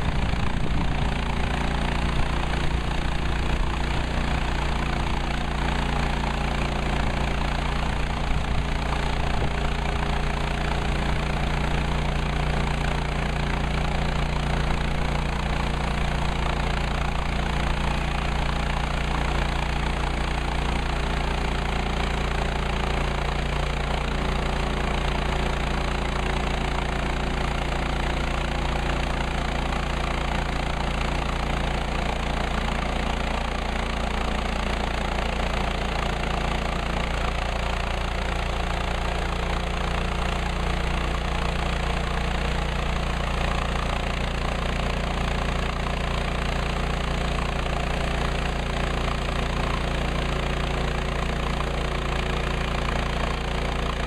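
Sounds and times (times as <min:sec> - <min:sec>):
sawmill petrol engine running: 0:00.0 - 0:54.0.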